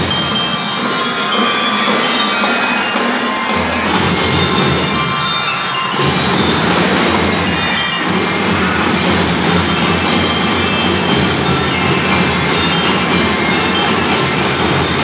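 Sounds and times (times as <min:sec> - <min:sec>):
bell lyres ringing: 0:00.0 - 0:15.0
drums: 0:00.0 - 0:15.0.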